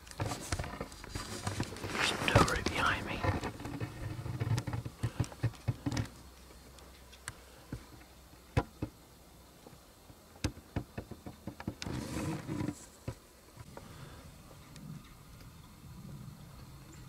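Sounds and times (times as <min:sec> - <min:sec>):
rustle: 0:00.0 - 0:17.0.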